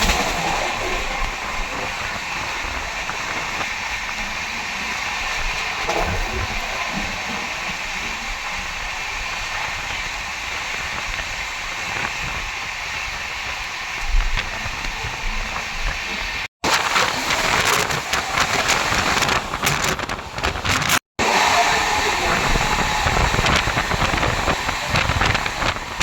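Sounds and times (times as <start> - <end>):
moving train rushing hiss: 0.0 - 20.5, 21.2 - 26.0.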